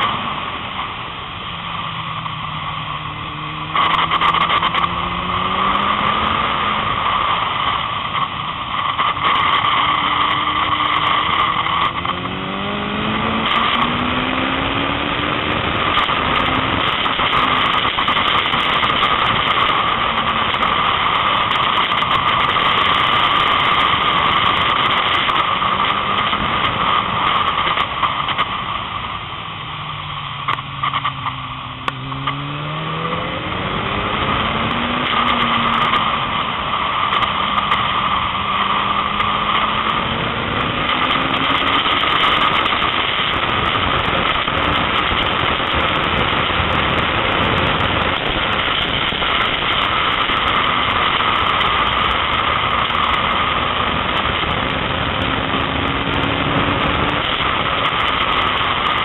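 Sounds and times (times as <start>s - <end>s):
motorcycle engine: 0.0s - 59.0s
wind noise: 0.0s - 59.0s.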